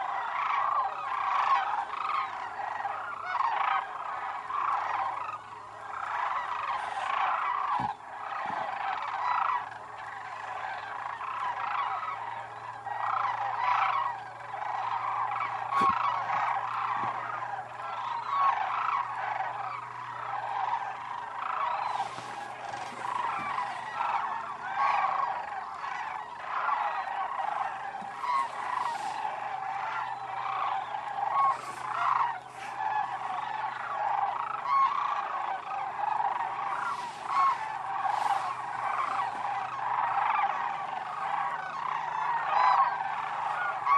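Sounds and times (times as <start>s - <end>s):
flock of cranes calling: 0.0s - 43.9s.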